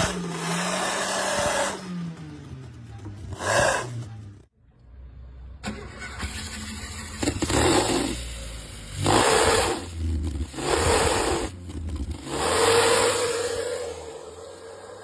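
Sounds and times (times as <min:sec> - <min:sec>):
car engine revving with raspy buzz: 0:00.0 - 0:15.0.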